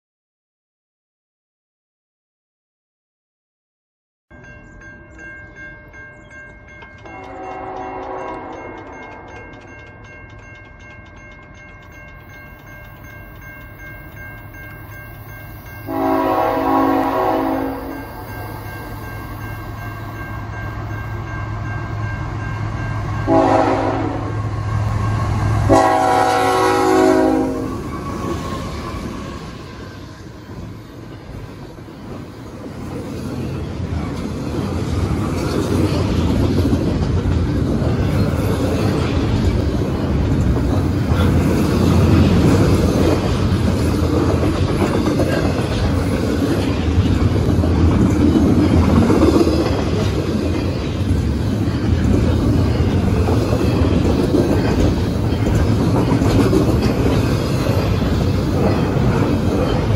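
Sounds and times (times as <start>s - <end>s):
freight train wheels rumbling on rail: 6.3s - 59.9s.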